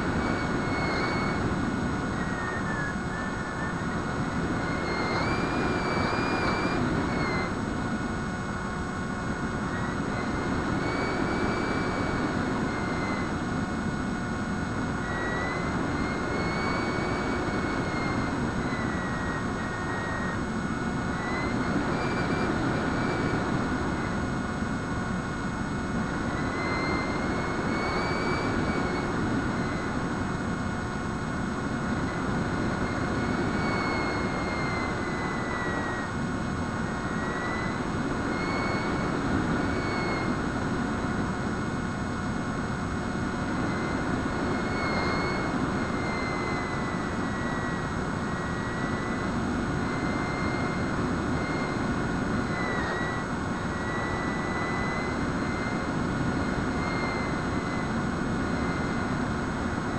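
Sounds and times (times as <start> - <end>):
electric motor propeller whine: 0.0 - 59.9.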